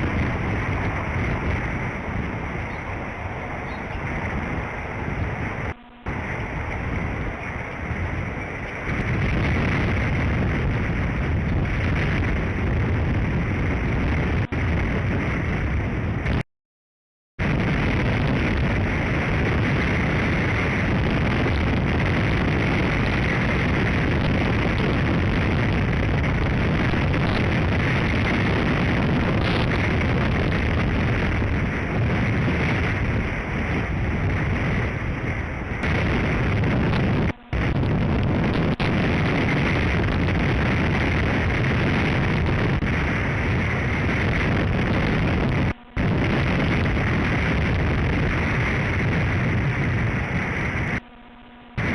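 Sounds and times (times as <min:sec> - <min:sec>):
wind buffeting microphone: 0:00.0 - 0:16.4, 0:17.4 - 0:51.9.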